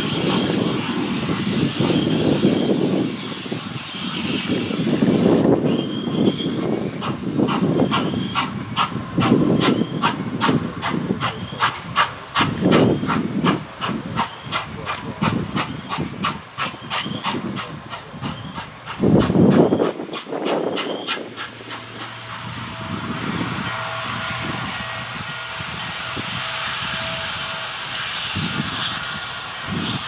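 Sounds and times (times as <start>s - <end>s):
steam locomotive chuffing: 0.0s - 30.0s.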